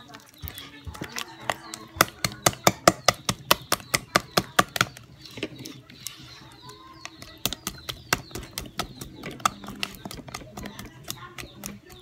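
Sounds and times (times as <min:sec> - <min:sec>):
dough being kneaded by hand: 0:00.0 - 0:12.0.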